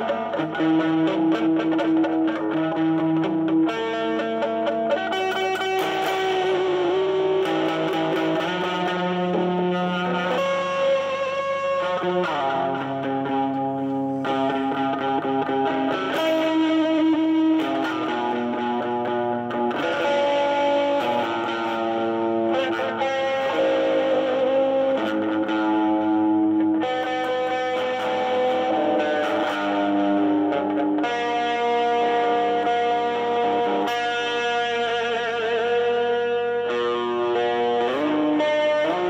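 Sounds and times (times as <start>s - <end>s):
electric guitar lead line: 0.0s - 39.0s.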